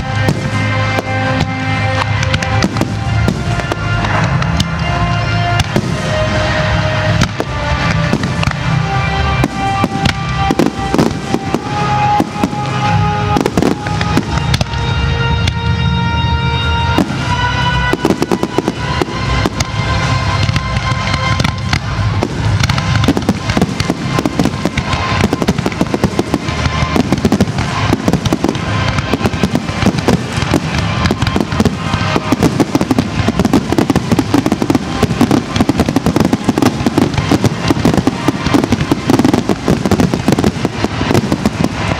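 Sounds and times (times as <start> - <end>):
fireworks bursting and crackling: 0.0 - 41.9
recorded music: 0.0 - 41.9.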